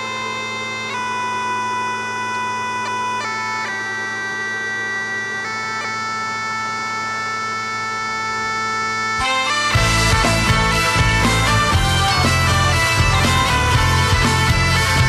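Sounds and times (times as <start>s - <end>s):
slow melody over low drone: 0.0s - 15.0s.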